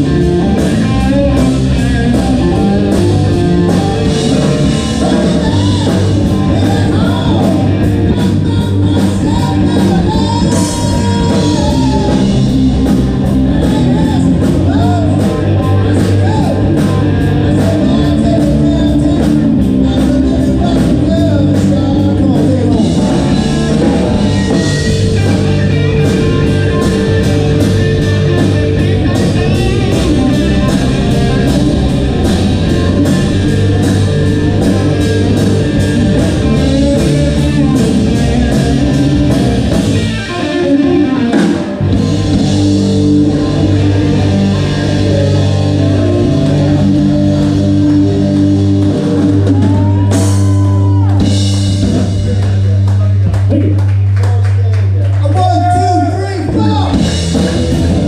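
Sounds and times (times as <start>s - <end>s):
drum kit beat: 0.0s - 54.4s, 55.3s - 58.0s
bass guitar: 0.0s - 58.0s
electric guitars: 0.0s - 58.0s.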